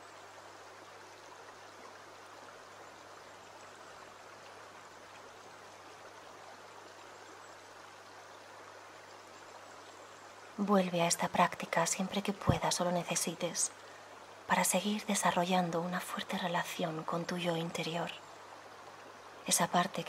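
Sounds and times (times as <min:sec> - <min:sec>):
creek water running over stones: 0:00.0 - 0:20.0.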